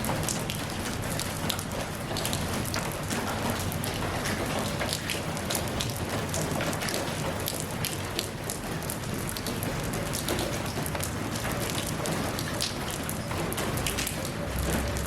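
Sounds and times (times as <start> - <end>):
rain pattering on a surface: 0.0 - 15.0.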